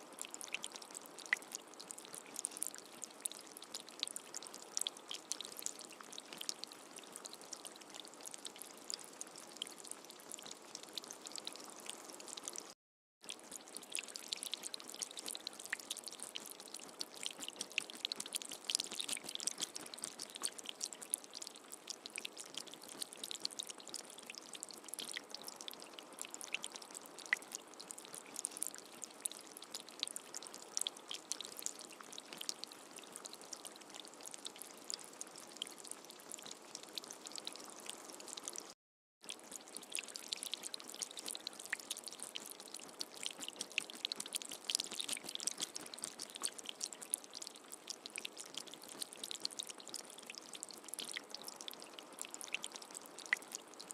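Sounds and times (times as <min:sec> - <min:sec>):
raindrops ticking close by: 0:00.1 - 0:53.9.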